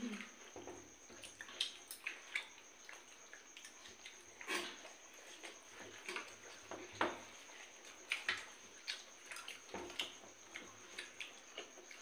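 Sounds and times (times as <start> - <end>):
wet chewing and lip-smacking: 1.1 - 6.7, 7.5 - 12.0.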